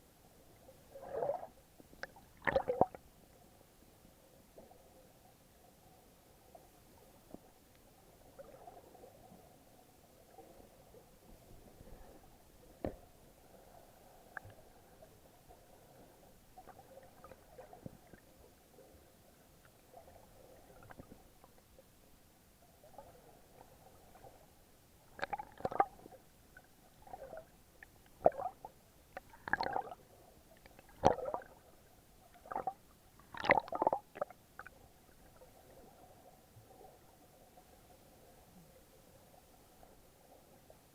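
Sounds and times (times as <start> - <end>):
muffled water gurgling and sloshing: 0.0 - 40.9.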